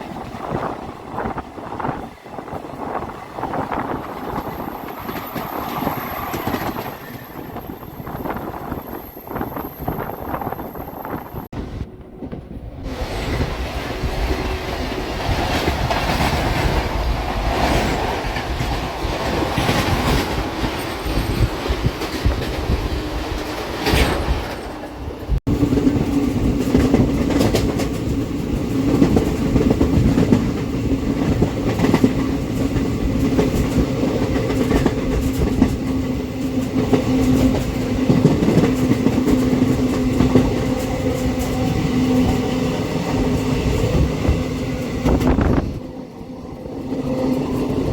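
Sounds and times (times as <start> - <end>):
train wheels clicking: 0.0 - 10.4, 12.2 - 45.9
train rumbling on rails: 0.0 - 47.9.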